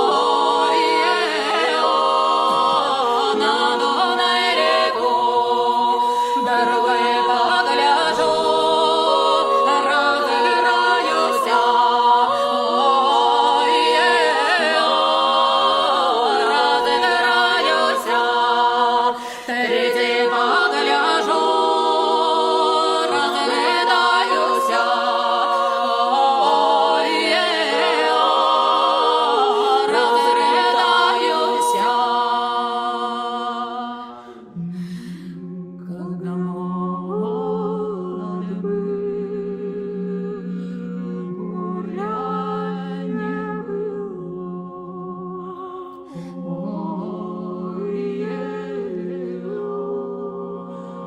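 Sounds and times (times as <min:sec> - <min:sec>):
male vocal quartet singing: 0:00.0 - 0:34.6, 0:35.9 - 0:51.0.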